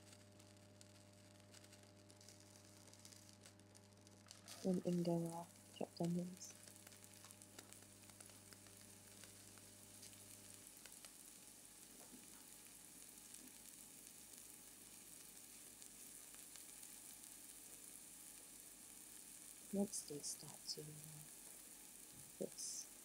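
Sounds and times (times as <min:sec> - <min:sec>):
onions sizzling in a frying pan: 0:00.0 - 0:23.0.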